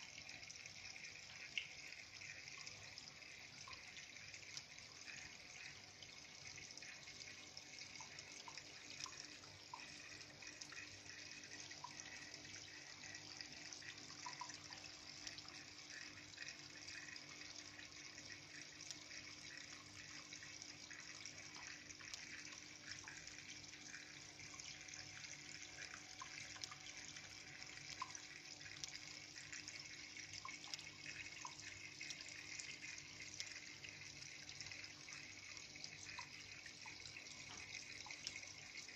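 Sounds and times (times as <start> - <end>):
faint steady hum: 0.0 - 38.9
water trickling: 0.0 - 38.9.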